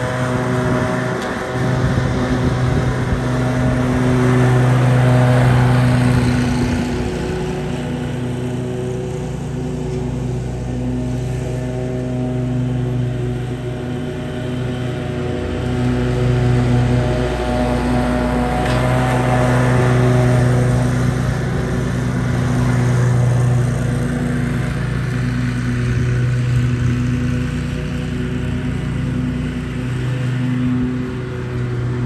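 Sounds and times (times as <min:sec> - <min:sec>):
riding mower engine running: 0:00.0 - 0:32.0.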